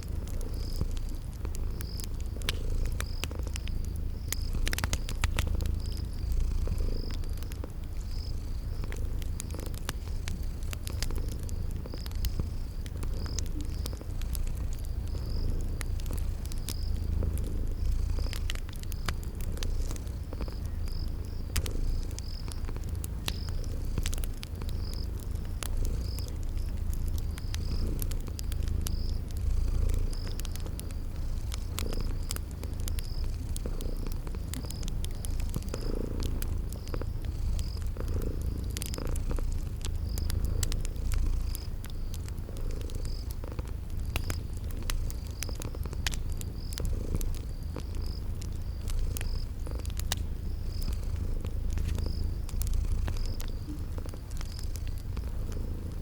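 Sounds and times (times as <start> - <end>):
cat purring: 0.0 - 56.0
cricket chirping: 0.0 - 56.0
wood fire crackling: 0.0 - 56.0.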